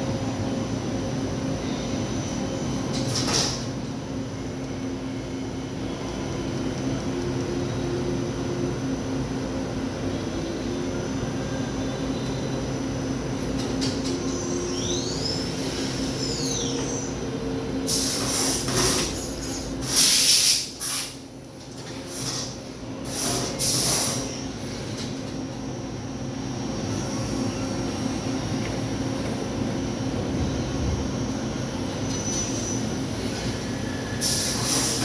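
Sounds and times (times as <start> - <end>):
high machine whine: 0.0 - 20.0, 21.2 - 35.0.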